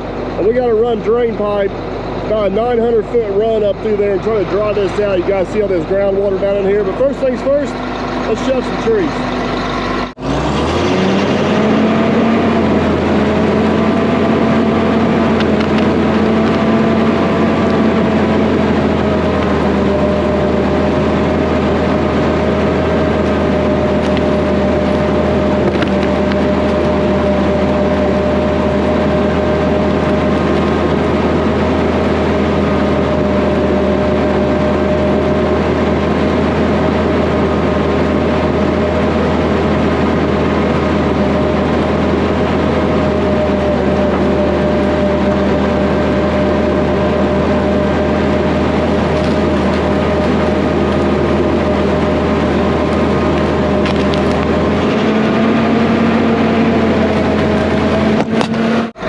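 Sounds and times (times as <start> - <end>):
diesel dozer engine revving: 0.0 - 59.0.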